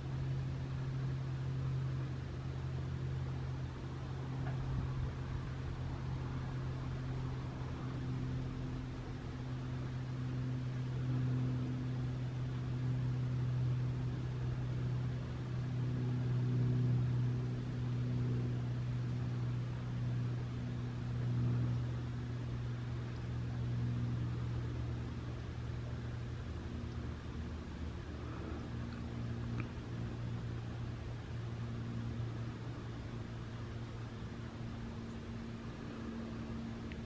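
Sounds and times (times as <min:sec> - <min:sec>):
low hiss: 0:00.0 - 0:37.0
low mechanical hum: 0:00.0 - 0:37.0.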